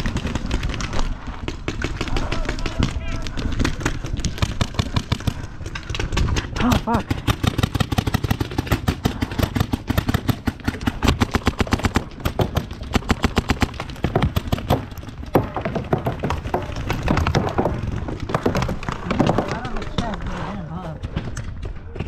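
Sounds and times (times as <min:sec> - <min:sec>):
paintball markers firing: 0:00.0 - 0:20.2.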